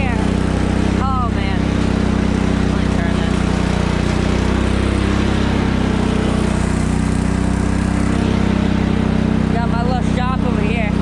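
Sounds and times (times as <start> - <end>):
lawn tractor engine running: 0.0 - 11.0.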